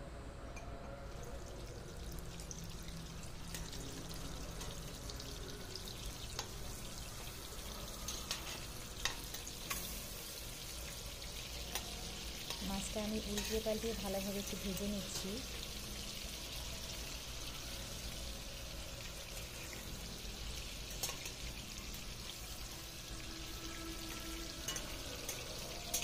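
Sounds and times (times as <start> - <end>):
prawns sizzling in oil: 1.0 - 26.0.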